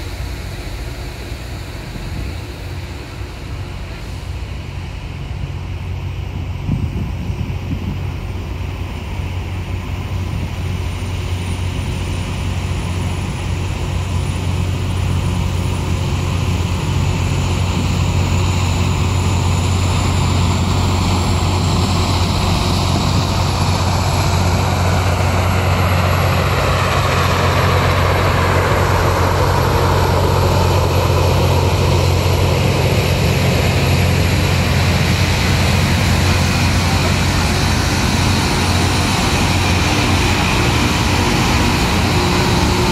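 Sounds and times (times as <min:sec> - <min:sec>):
deep engine hum: 0:00.0 - 0:42.9.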